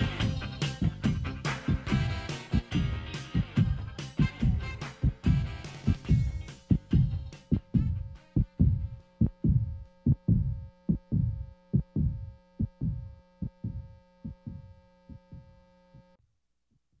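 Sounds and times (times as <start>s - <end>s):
steady electronic hum: 0.0s - 16.3s
heartbeat-like double thumps: 0.8s - 2.1s, 2.7s - 15.6s.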